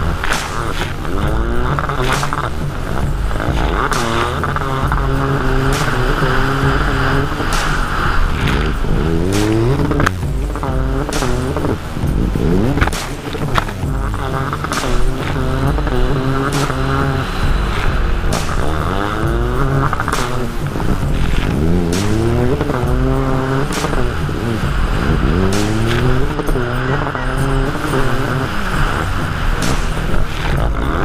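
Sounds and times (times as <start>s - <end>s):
hull slapping water: 0.0s - 31.0s
jet ski engine running flat out: 0.0s - 31.0s.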